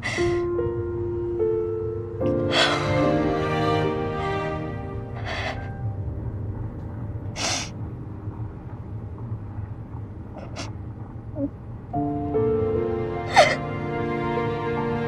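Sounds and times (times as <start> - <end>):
low steady hum: 0.0 - 15.0
music: 0.0 - 15.0.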